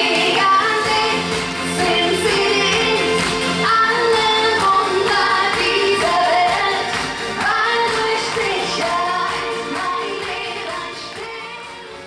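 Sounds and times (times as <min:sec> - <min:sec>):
woman singing into microphone: 0:00.0 - 0:11.8
amplified backing music: 0:00.0 - 0:12.0.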